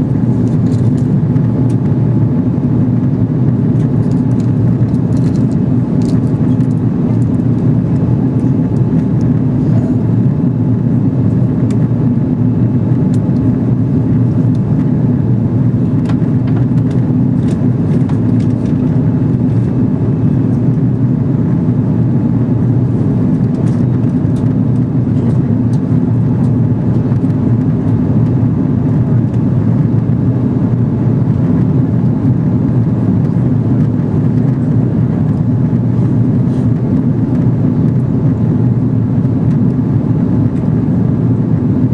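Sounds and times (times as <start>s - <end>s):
airliner cabin engine drone: 0.0s - 41.9s.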